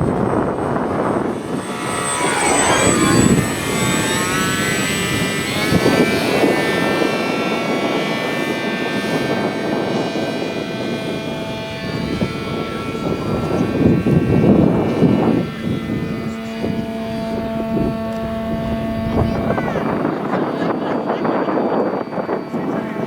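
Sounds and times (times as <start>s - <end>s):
model airplane motor whine: 0.0s - 23.0s.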